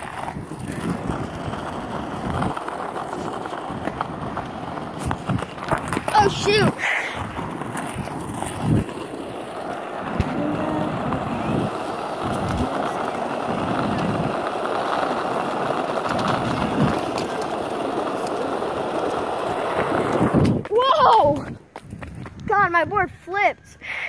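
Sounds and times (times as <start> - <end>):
skateboard wheels rolling on asphalt: 0.0 - 24.0.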